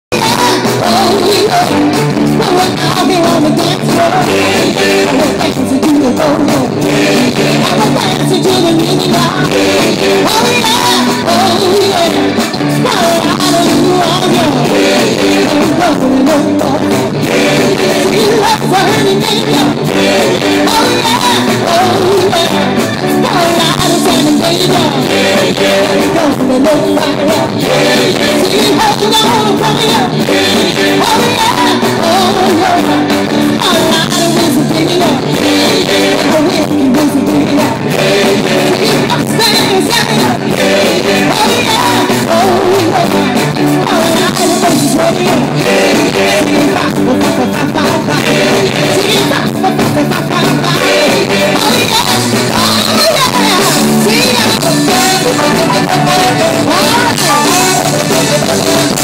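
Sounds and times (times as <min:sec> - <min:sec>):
electric guitars: 0:00.0 - 0:59.0
person singing: 0:00.0 - 0:59.0
rock band playing: 0:00.1 - 0:59.0.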